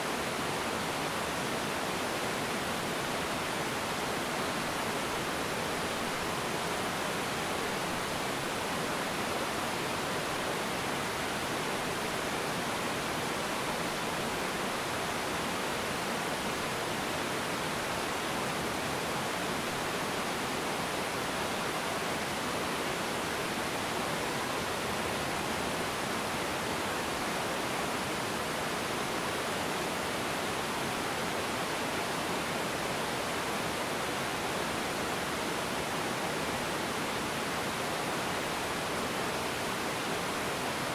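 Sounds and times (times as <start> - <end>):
waterfall pouring over rocks: 0.0 - 40.9.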